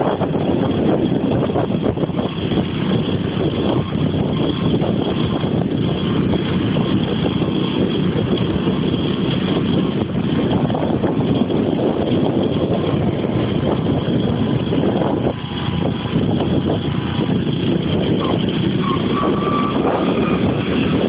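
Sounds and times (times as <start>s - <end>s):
road vehicle running noise: 0.0s - 21.0s.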